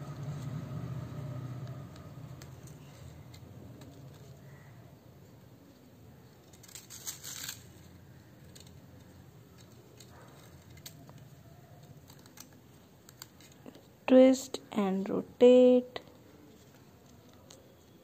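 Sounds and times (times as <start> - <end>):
wire twisting rustle and clicks: 1.4 - 14.0, 16.0 - 18.0.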